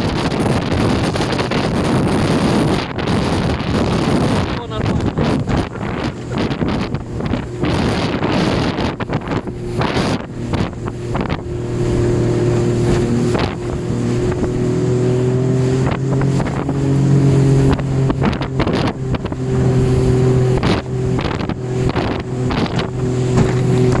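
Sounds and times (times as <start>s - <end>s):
boat motor running: 0.0s - 24.0s
wind buffeting microphone: 0.0s - 24.0s.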